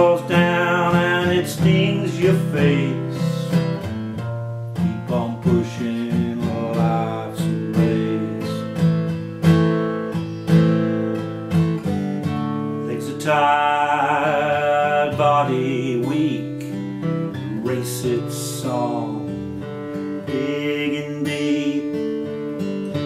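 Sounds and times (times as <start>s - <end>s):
man singing: 0.0s - 4.2s, 4.8s - 9.2s, 10.6s - 23.0s
acoustic guitar chords: 0.0s - 23.0s.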